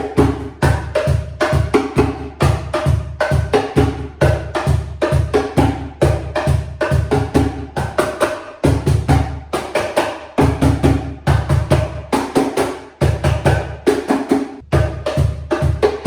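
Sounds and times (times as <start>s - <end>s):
hand-played cajon groove: 0.0s - 16.0s.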